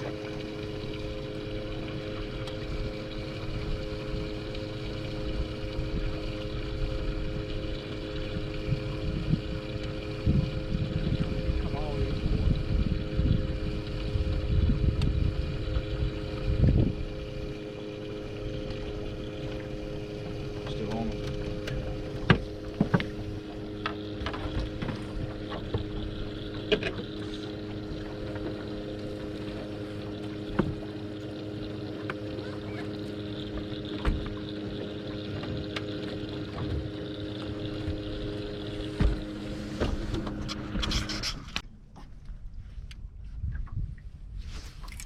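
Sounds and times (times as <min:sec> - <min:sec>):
boat motor humming: 0:00.0 - 0:44.3.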